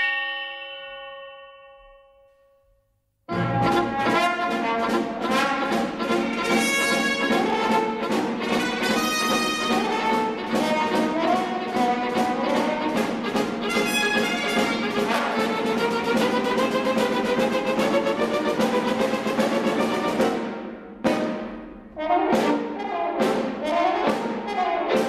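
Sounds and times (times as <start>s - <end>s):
orchestral brass cartoon music: 3.3s - 25.0s.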